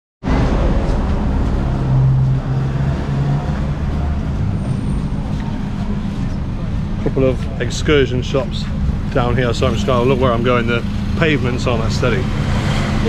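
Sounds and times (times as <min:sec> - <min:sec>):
vehicle engine rumbling: 0:00.2 - 0:13.0.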